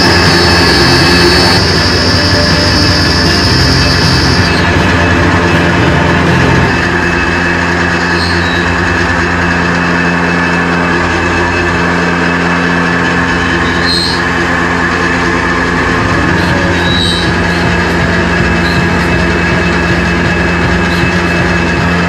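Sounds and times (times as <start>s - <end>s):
milling machine cutting metal: 0.0s - 22.0s.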